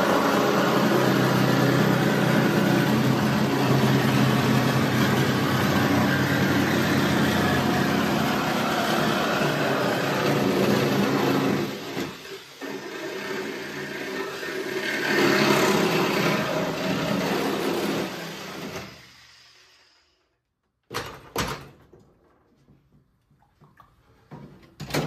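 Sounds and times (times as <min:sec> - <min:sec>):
power tool cutting sheet steel: 0:00.0 - 0:20.2.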